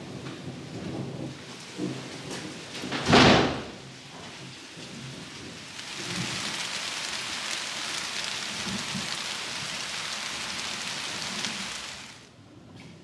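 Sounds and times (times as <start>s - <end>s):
thunder crack: 0.0s - 11.9s
rain falling: 0.0s - 12.4s.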